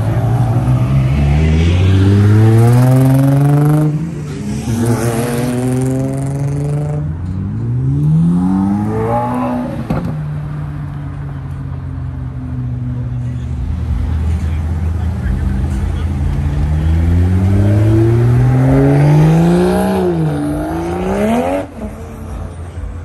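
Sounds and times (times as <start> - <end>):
car engine accelerating hard: 0.0 - 10.2, 13.6 - 22.5.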